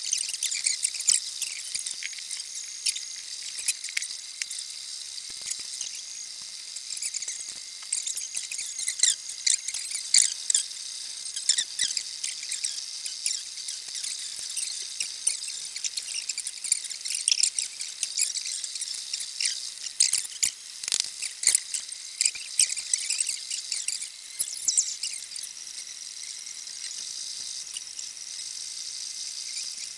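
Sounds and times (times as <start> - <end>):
faint steady high whine: 0.0 - 29.9
stepper motors chirping: 0.0 - 29.9.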